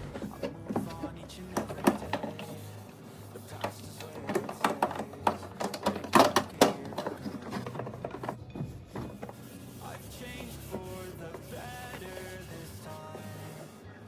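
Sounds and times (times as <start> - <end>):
items clicking and knocking: 0.0 - 12.2
items clattering: 0.0 - 14.0.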